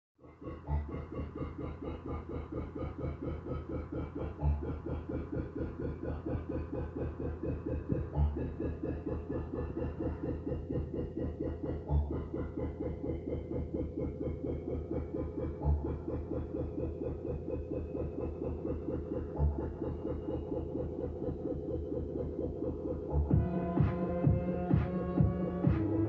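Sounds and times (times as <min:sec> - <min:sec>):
music with fast pulse: 0:00.2 - 0:26.0.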